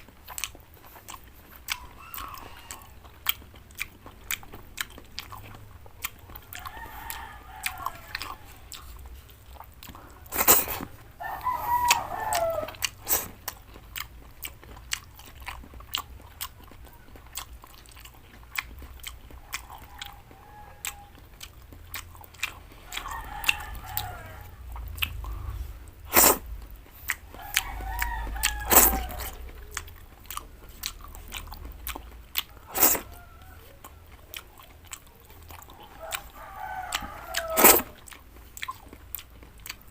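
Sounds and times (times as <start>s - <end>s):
mouth clicks and smacks: 0.0s - 24.1s, 24.7s - 39.9s
person chewing vegetables: 0.0s - 39.9s.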